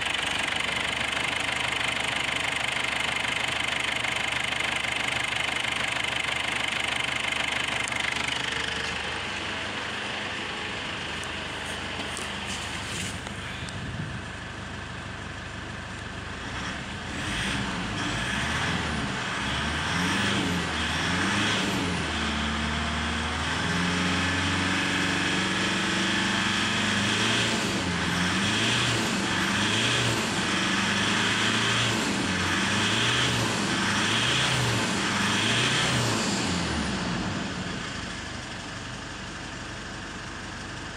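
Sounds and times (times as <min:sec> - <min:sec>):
diesel engine revving: 0:00.0 - 0:38.6.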